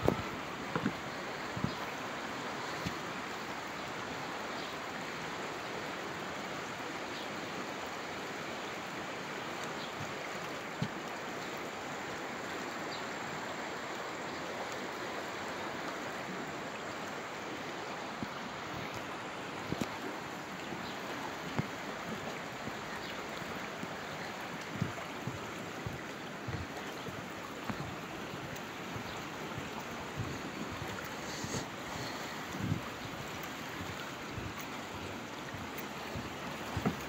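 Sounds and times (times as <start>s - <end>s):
water rushing along a channel: 0.0s - 37.0s.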